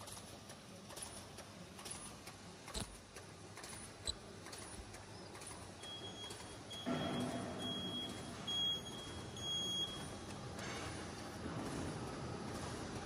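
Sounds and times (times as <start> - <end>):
machine running: 1.8 - 13.0.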